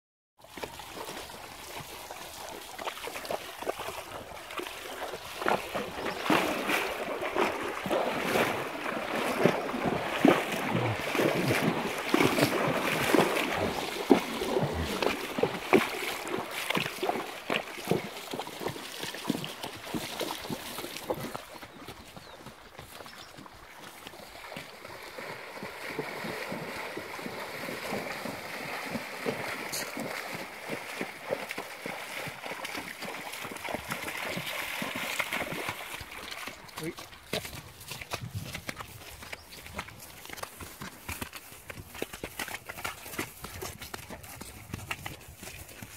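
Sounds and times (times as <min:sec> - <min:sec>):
horse splashing through water: 0:00.4 - 0:45.9.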